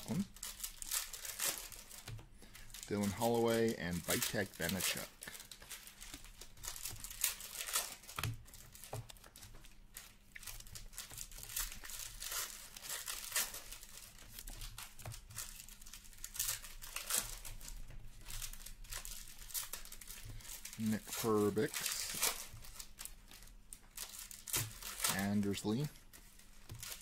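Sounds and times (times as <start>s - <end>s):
cards being shuffled: 0.0s - 27.0s
foil wrapper crinkling and tearing: 0.0s - 27.0s.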